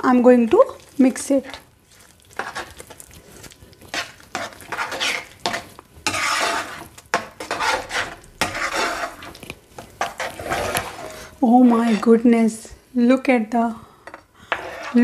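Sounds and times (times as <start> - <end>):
spoon scraping a pan: 0.0 - 12.3, 14.0 - 15.0.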